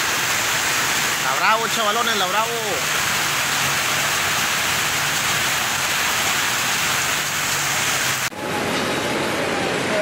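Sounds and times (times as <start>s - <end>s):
floodwater rushing: 0.0s - 10.0s
heavy rain on flooded street: 0.0s - 10.0s.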